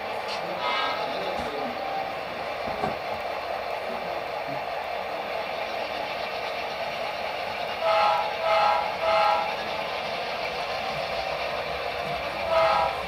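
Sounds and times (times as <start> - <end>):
model locomotive running hum: 0.0 - 13.0.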